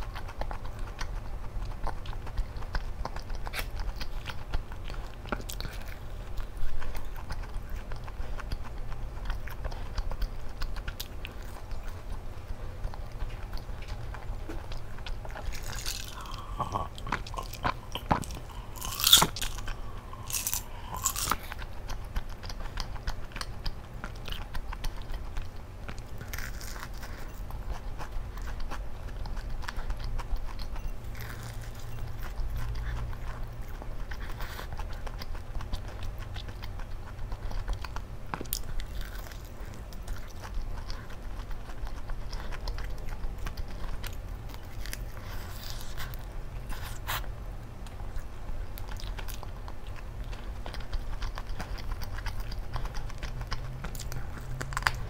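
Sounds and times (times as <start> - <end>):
person chewing crunchy chicken: 0.0 - 55.0.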